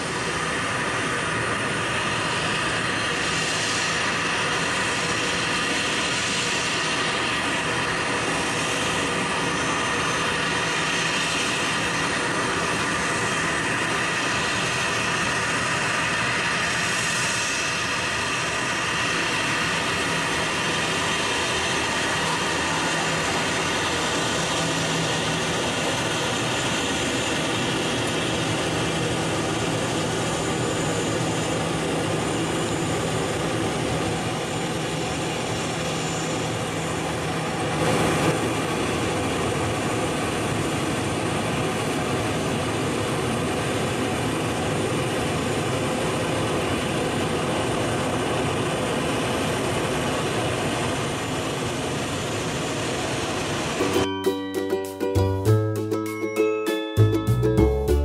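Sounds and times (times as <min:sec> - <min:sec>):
jet engines at low thrust: 0:00.0 - 0:54.1.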